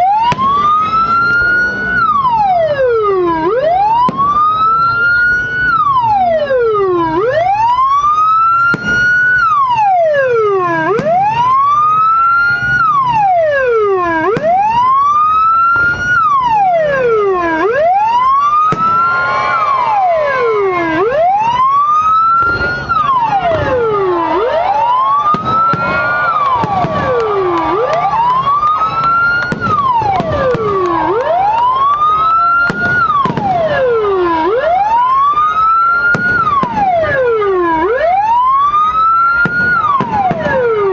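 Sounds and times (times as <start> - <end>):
wailing siren: 0.0 - 40.9.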